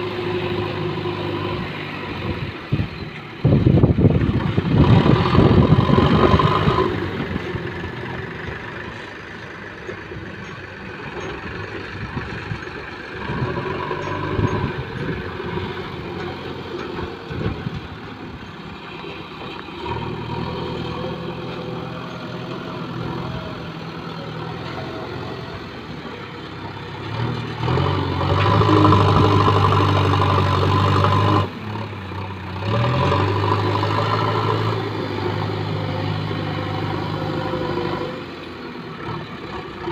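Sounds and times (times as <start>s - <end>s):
diesel engine running and revving: 0.0s - 39.9s.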